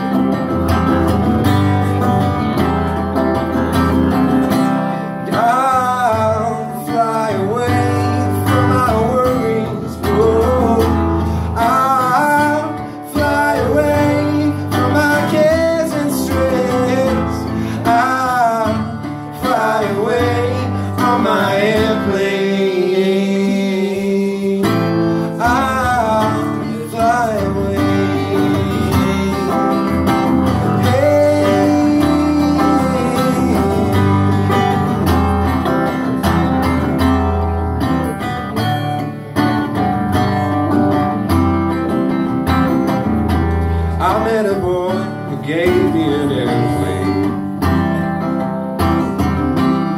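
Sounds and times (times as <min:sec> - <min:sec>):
guitars strummed and picked: 0:00.0 - 0:49.9.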